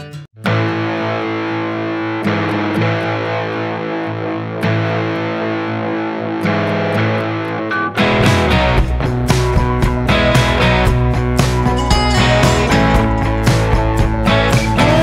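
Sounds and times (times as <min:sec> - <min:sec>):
band music with distorted guitar: 0:00.0 - 0:15.0.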